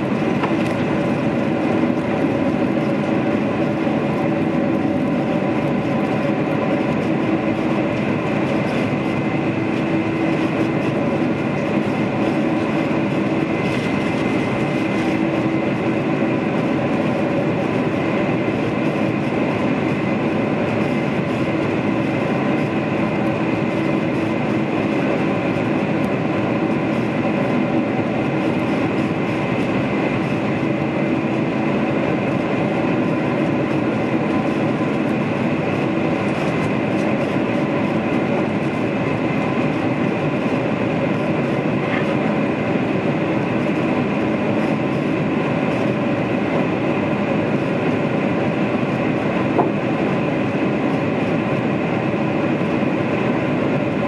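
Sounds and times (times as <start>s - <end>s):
jet engines and airflow rushing: 0.0s - 54.0s
steady engine tones: 0.0s - 54.0s.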